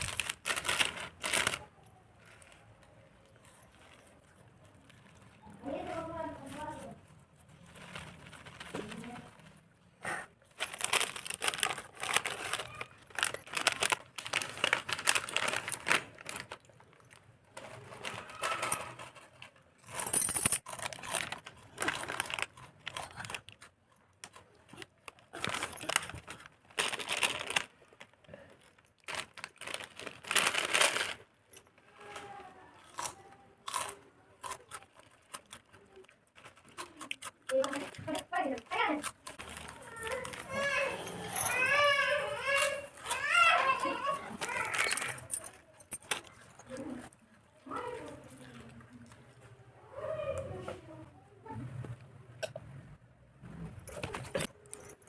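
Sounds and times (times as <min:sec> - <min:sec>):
plastic wrappers crinkling and tearing: 0:00.0 - 0:49.4
crunchy eating of snacks: 0:00.0 - 0:50.7.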